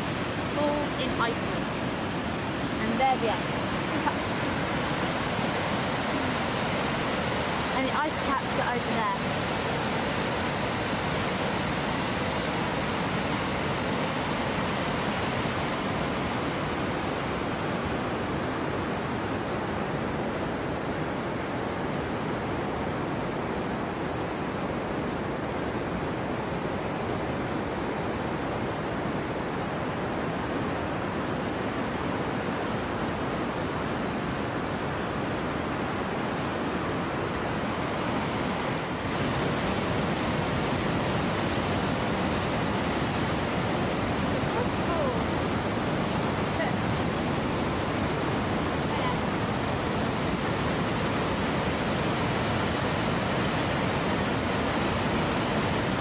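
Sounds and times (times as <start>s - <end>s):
waterfall roaring: 0.0s - 56.0s
wind on microphone: 0.0s - 56.0s.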